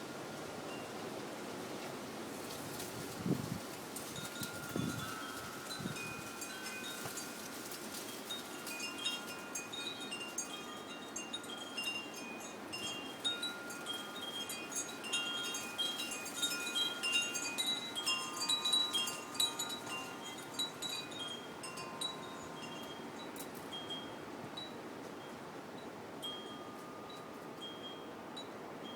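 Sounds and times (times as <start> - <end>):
wind hiss: 0.0 - 28.9
wind chimes ringing: 4.2 - 28.9.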